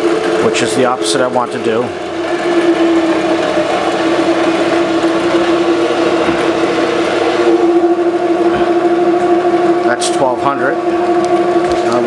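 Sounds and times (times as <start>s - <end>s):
drill press motor hum: 0.0s - 12.0s.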